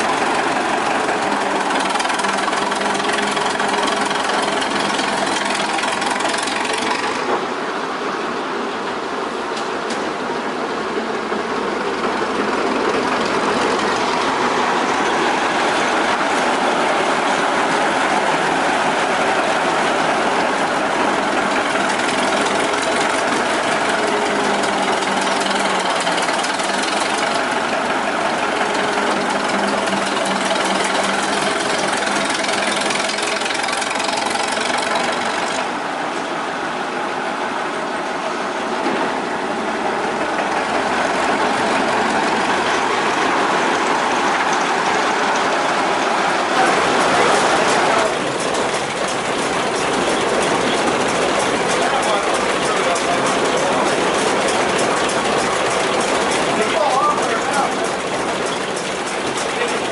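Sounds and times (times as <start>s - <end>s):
old gasoline engine running: 0.0s - 7.5s, 11.4s - 35.9s, 40.1s - 59.9s.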